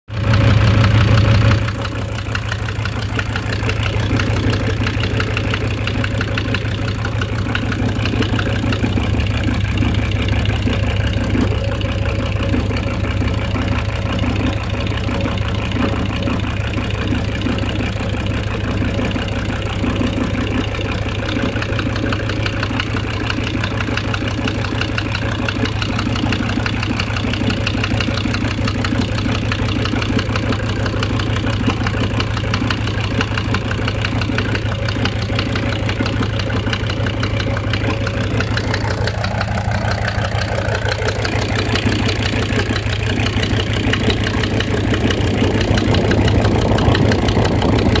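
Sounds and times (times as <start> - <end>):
engine idling with knock: 0.1 - 48.0.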